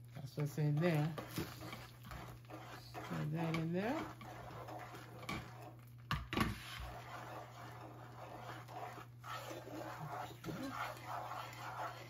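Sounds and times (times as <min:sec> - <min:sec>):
steady low hum: 0:00.0 - 0:05.9, 0:06.6 - 0:12.0
wooden spoon scraping a pan: 0:00.0 - 0:12.0.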